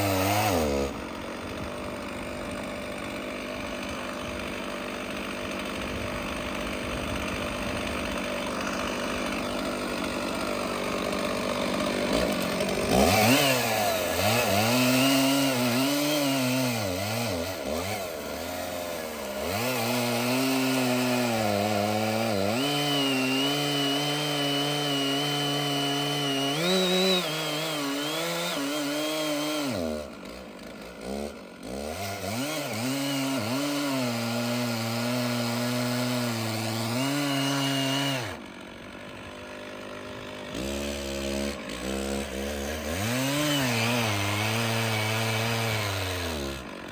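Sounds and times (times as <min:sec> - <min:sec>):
chainsaw cutting log: 0:00.0 - 0:46.9.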